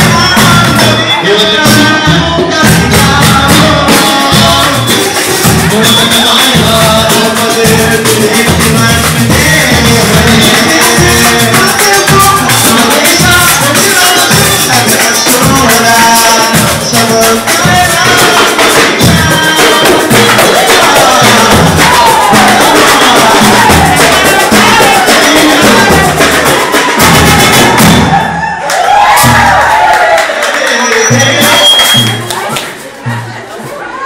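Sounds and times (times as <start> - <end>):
person singing: 0.0 - 27.7
band playing samba beat: 0.0 - 34.0.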